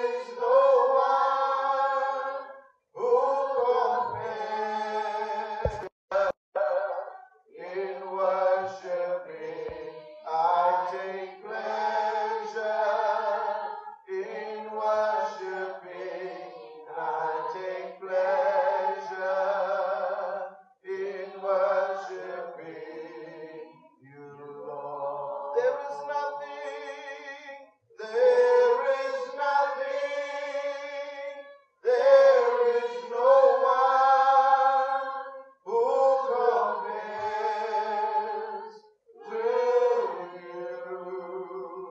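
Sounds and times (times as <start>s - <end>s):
unaccompanied worship singing: 0.0s - 41.9s.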